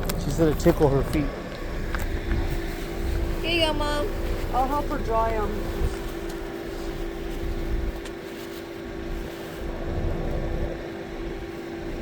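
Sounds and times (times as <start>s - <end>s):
low rumble: 0.0s - 12.0s
mechanical hum: 0.0s - 12.0s.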